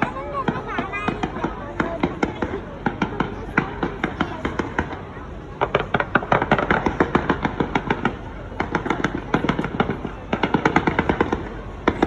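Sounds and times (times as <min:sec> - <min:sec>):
fireworks crackling bangs: 0:00.0 - 0:12.0.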